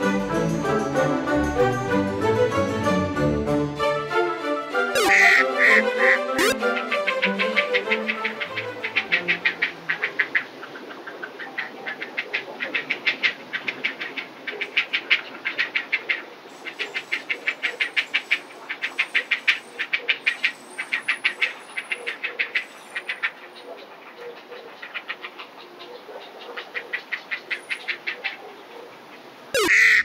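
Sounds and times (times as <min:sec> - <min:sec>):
ducks calling rapidly: 0:05.0 - 0:30.0.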